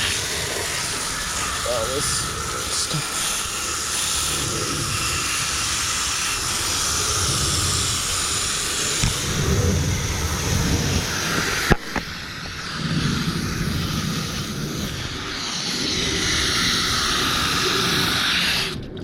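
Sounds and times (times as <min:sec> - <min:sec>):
hose nozzle spraying water: 0:00.0 - 0:18.8.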